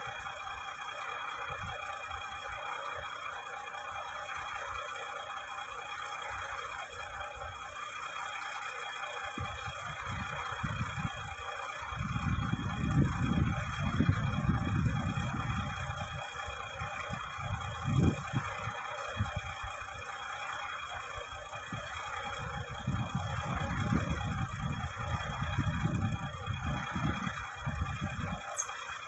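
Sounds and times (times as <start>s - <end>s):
bulldozer high whine: 0.0s - 29.0s
bulldozer rumbling and knocking: 0.0s - 29.0s.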